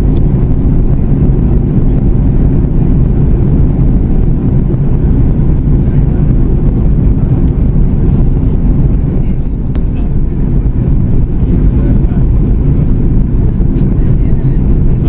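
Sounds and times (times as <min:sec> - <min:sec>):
airflow past fuselage: 0:00.0 - 0:15.0
jet engine rumble: 0:00.0 - 0:15.0.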